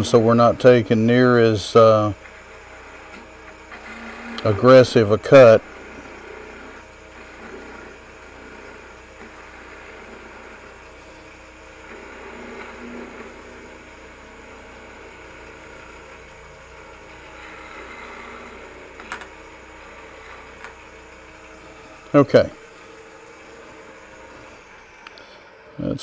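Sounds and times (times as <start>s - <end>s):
gouge cutting spinning wood: 0.0s - 26.0s
wood lathe running: 0.0s - 26.0s.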